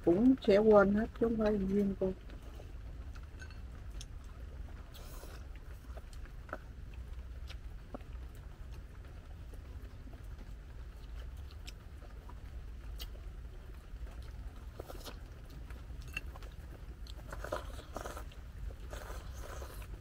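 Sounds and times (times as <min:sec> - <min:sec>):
low steady hum: 0:00.0 - 0:20.0
chewing and slurping: 0:02.2 - 0:20.0.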